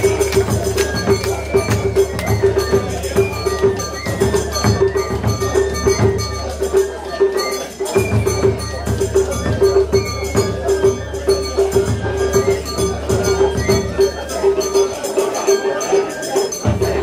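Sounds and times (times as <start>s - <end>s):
cowbell-like clang: 0.0s - 17.0s
festival music with percussion: 0.0s - 17.0s.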